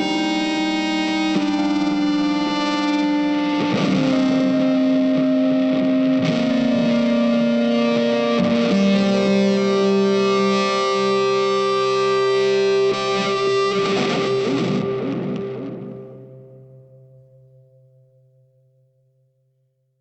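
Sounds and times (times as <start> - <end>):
slow electric guitar chords: 0.0 - 19.1.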